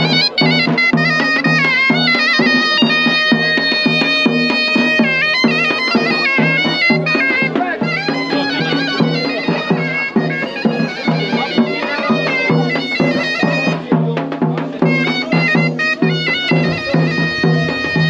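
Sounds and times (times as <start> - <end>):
folk music on reed pipe: 0.0 - 18.0.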